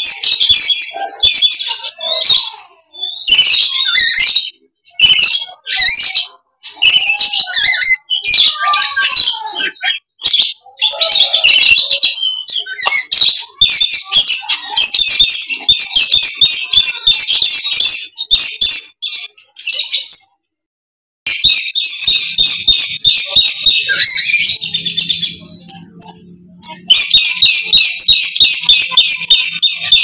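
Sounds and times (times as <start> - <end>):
lories screeching chatter: 0.0 - 20.4, 21.3 - 30.0.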